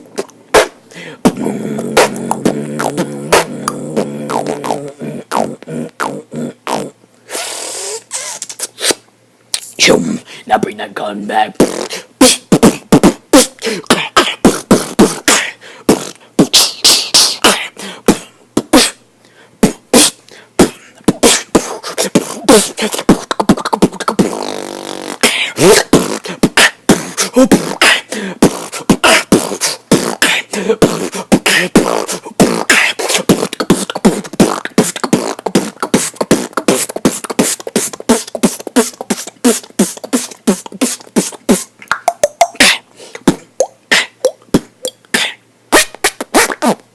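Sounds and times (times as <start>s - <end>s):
buzzing pitched vocal sound: 0.0s - 9.0s, 9.6s - 19.0s, 19.6s - 46.8s
man beatboxing: 0.0s - 19.0s, 19.6s - 46.8s.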